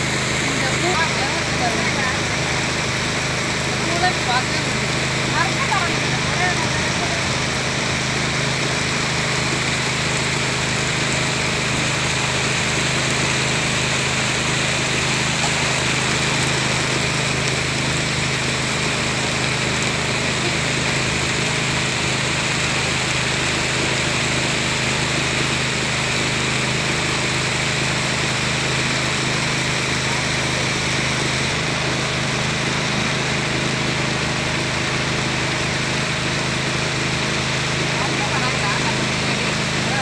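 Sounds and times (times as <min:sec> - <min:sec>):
boat engine running: 0:00.0 - 0:40.0
heavy rain on water: 0:00.0 - 0:40.0.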